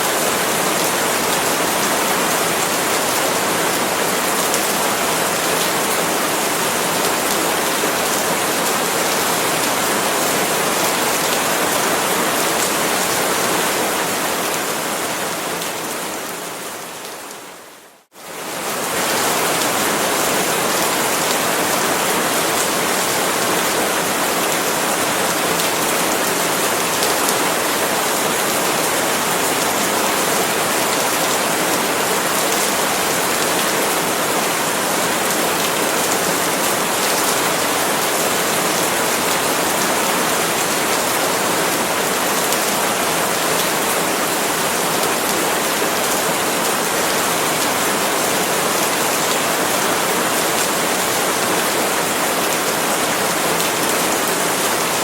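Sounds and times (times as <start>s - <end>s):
heavy rain on palm leaves: 0.0s - 55.0s.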